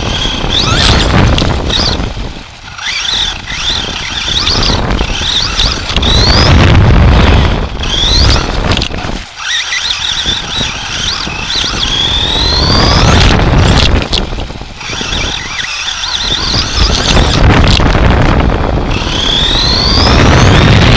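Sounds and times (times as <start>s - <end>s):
toy car motor whine: 0.0s - 20.9s
wind buffeting microphone: 0.0s - 20.9s.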